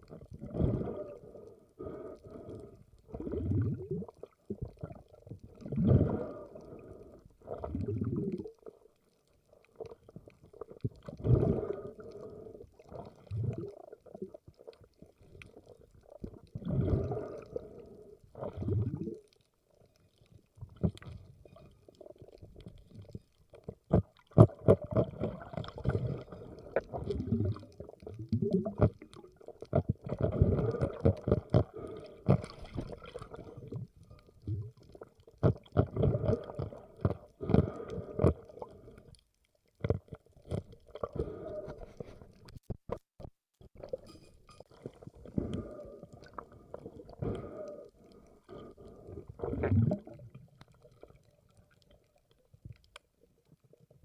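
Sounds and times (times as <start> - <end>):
muffled water sloshing and gurgling: 0.0 - 54.0.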